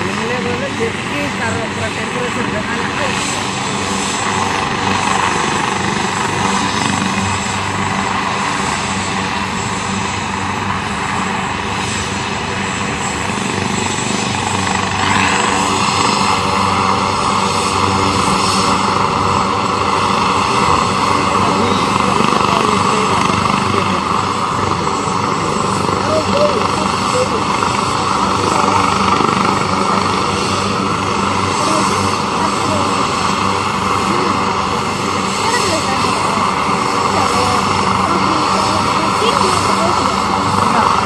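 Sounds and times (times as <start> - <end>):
helicopter engine whine: 0.0 - 41.0
helicopter rotor noise: 0.0 - 41.0.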